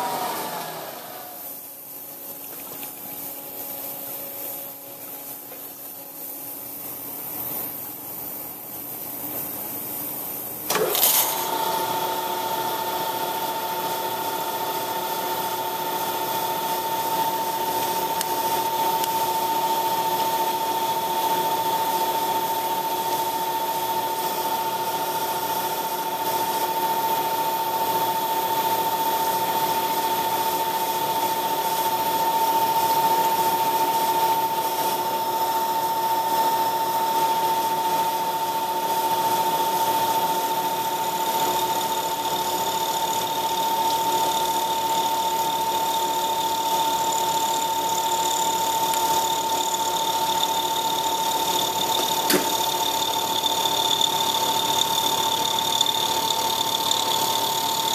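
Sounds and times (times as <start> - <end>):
metal cutting noise: 0.0 - 57.9
milling spindle whine: 0.0 - 57.9.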